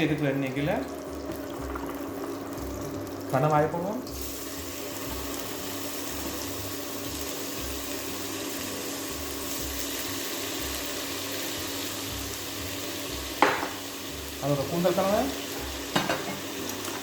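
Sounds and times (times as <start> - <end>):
squid sizzling in oil: 0.0 - 17.0.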